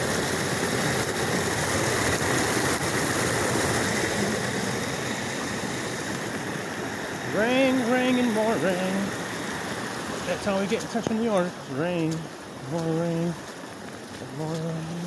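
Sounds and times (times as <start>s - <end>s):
runoff water rushing and splashing: 0.0s - 15.0s.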